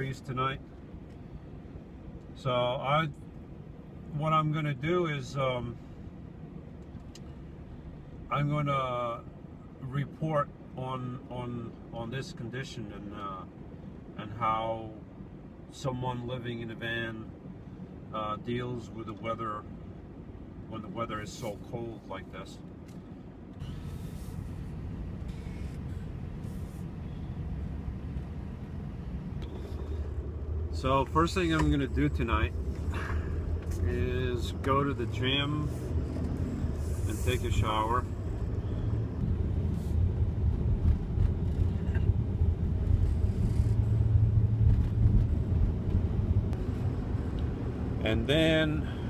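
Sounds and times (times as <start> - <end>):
van engine and road noise: 0.0 - 49.0.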